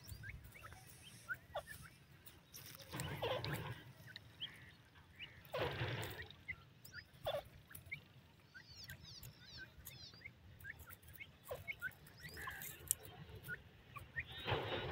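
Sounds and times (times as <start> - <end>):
chicks peeping: 0.0 - 14.9.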